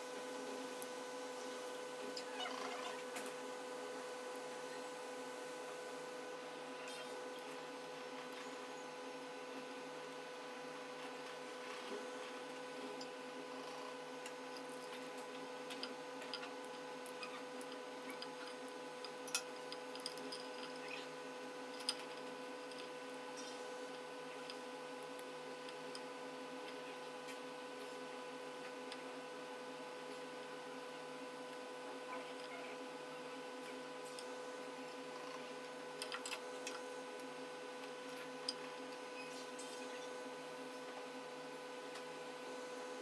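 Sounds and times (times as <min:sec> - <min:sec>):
steady electrical hum: 0:00.0 - 0:43.0.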